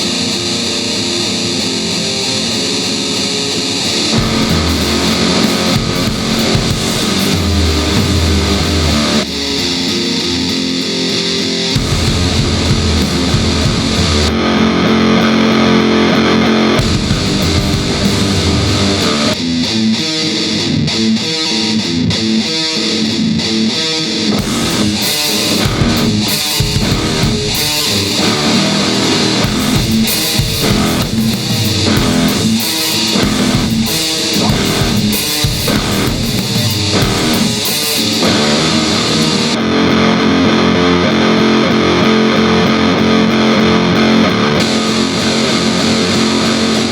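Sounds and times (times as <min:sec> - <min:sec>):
distorted electric guitar: 0:00.0 - 0:46.9
bass guitar: 0:01.2 - 0:46.9.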